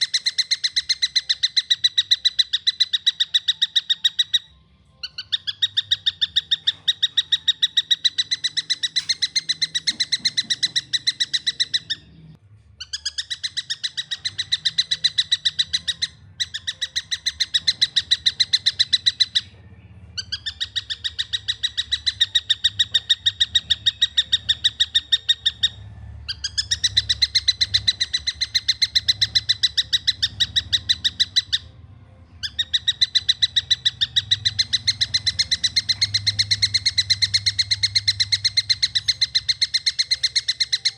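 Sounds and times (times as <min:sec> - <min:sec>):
kingfisher calling: 0:00.0 - 0:12.1, 0:12.8 - 0:19.5, 0:20.2 - 0:31.8, 0:32.4 - 0:40.9.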